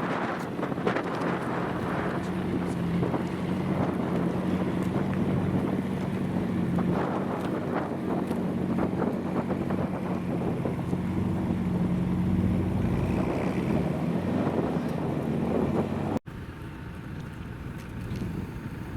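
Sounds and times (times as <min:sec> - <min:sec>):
car engine running: 0:00.0 - 0:18.9
wind rumbling on microphone: 0:00.0 - 0:18.9.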